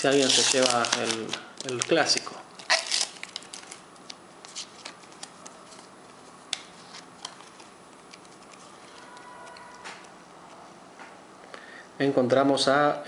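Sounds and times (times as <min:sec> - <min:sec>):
paper sticker packets rustling: 0:00.0 - 0:10.6.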